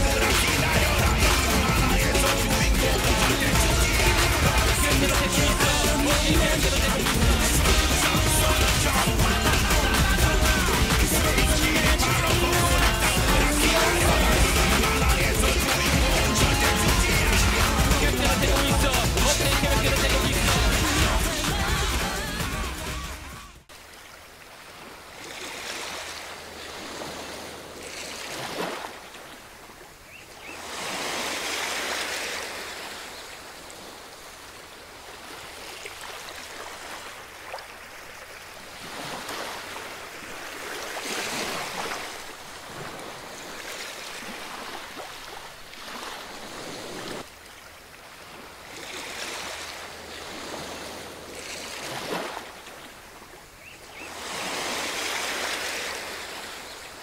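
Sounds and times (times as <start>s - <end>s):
ocean waves washing on beach: 0.0s - 22.4s, 23.6s - 57.0s.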